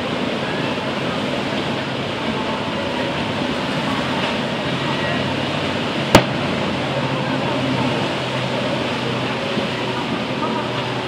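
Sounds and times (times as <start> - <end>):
hulls rushing on rough water: 0.0 - 11.0
motorboat engines droning: 0.0 - 11.0.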